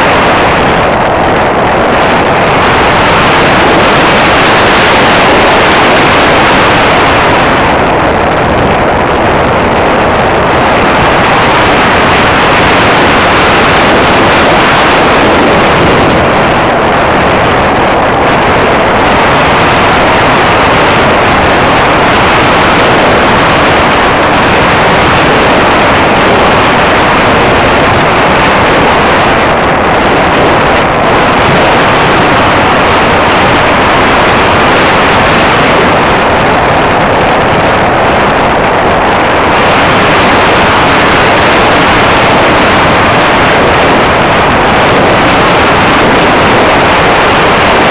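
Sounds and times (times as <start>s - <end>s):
airplane propeller noise: 0.0s - 47.9s
wind rushing on microphone: 0.0s - 47.9s.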